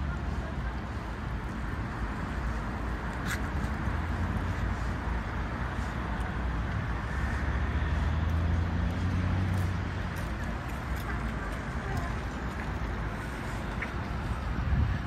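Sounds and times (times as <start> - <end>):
road traffic rumble: 0.0 - 15.0
vehicle engine: 0.0 - 15.0.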